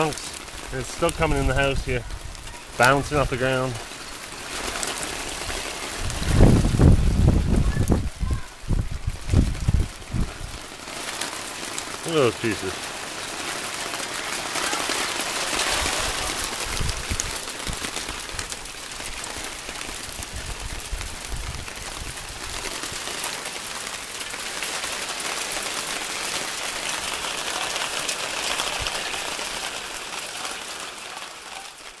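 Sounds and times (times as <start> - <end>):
hail on wooden deck: 0.0 - 32.0.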